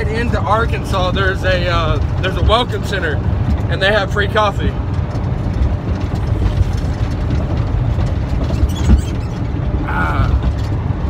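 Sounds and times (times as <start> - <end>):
truck cab road rumble: 0.0 - 11.0
rattles and knocks: 0.1 - 11.0.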